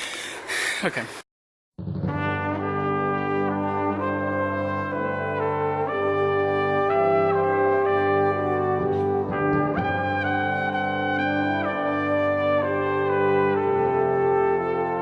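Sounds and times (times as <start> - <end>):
orchestral brass music: 1.8 - 15.0.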